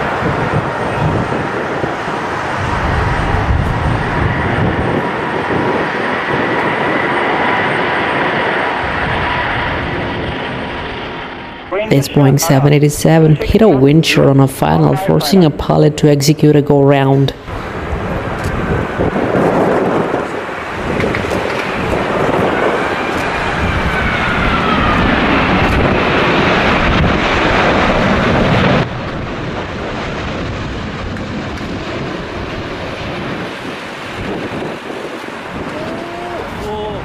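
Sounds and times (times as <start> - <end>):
jet engine whine: 0.0 - 37.0
jet engines rushing: 0.0 - 37.0
wind buffeting microphone: 0.0 - 37.0.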